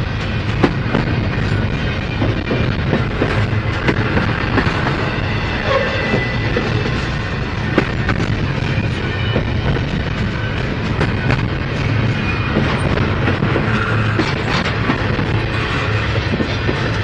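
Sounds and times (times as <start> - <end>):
freight train rumbling: 0.0 - 17.0
wheels clicking over rail joints: 0.0 - 17.0.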